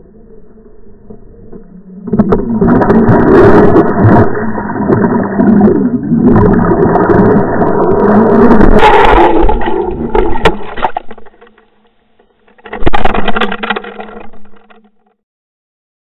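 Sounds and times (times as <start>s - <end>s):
underwater rushing noise: 0.1s - 14.9s.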